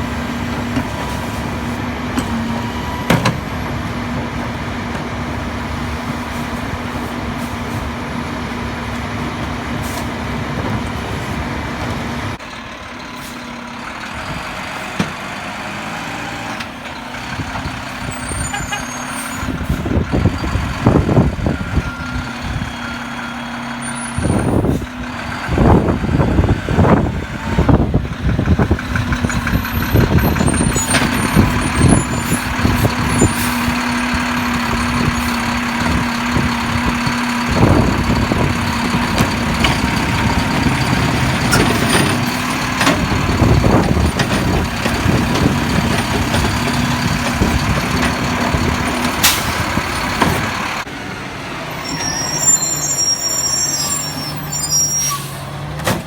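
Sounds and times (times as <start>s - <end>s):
garbage truck diesel engine: 0.0s - 56.0s.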